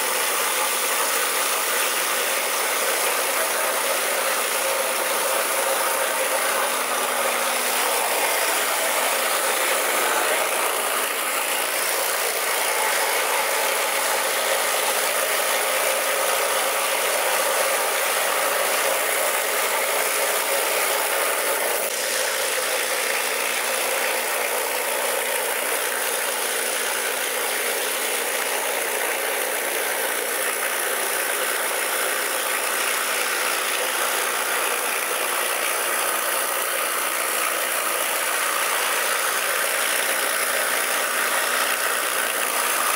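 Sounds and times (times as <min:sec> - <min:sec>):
high-pressure water jets hissing: 0:00.0 - 0:42.9.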